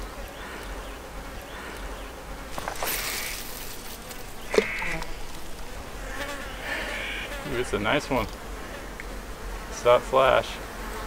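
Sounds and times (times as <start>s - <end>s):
flying insects buzzing: 0.0s - 11.0s.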